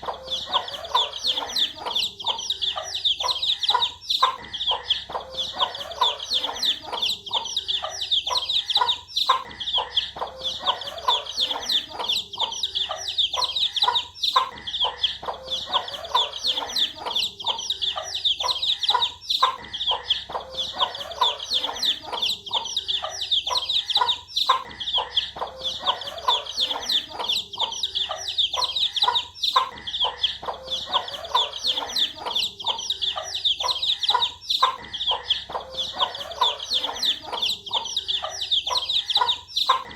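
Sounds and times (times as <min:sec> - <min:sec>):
baby chicks peeping: 0:00.0 - 0:39.9
clucking: 0:00.0 - 0:39.9.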